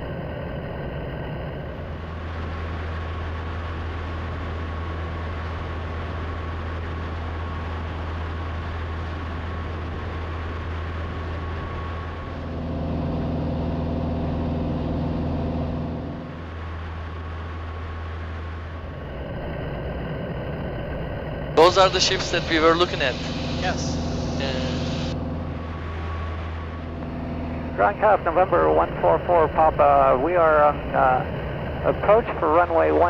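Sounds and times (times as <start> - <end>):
light aircraft engine droning: 0.0 - 33.0.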